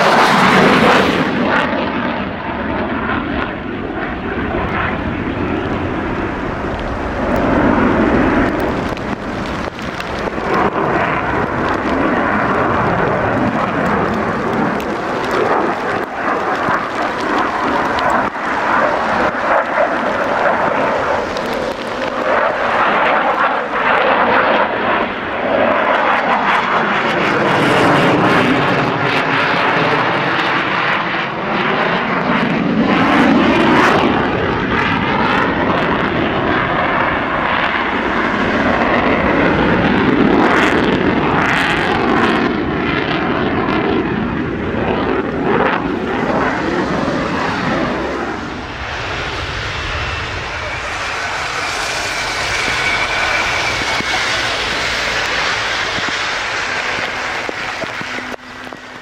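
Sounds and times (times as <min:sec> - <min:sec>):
jet engine roaring past: 0:00.0 - 0:59.0.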